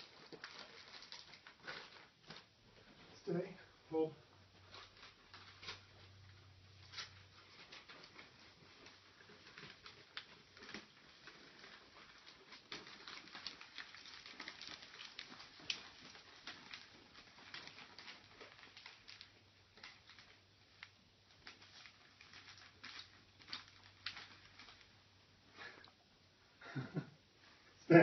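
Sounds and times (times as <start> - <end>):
wrapping paper crinkling: 0.0 - 25.9.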